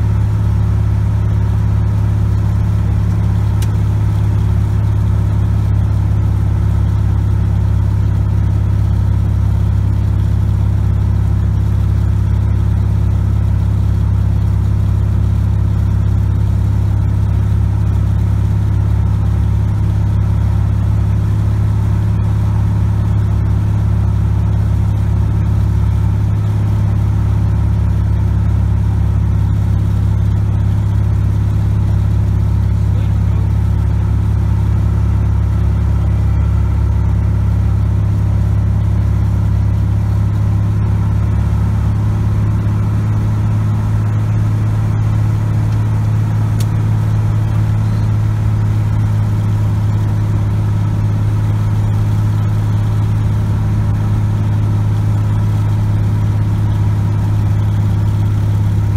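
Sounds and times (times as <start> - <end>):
airplane engine and propeller droning: 0.0 - 58.9.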